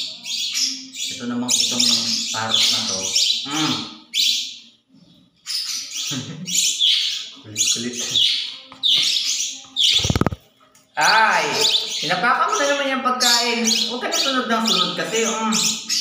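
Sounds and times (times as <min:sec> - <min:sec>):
parakeets chirping and squawking: 0:00.0 - 0:16.0.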